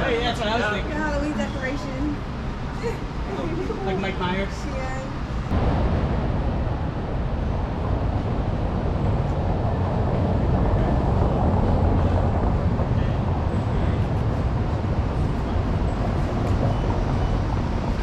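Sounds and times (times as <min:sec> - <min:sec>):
low rumble of city street noise: 0:00.0 - 0:18.0.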